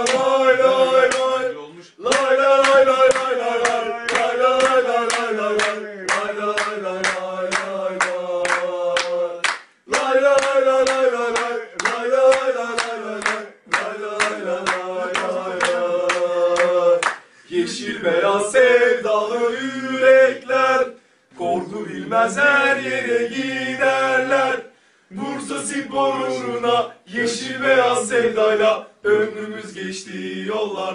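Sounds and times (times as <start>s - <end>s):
men chanting in unison: 0.0s - 30.9s.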